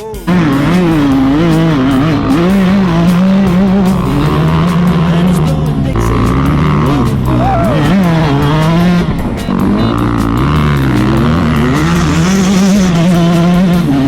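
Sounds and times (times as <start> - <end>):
background music: 0.0 - 14.0
dirt bike engine revving: 0.3 - 14.0.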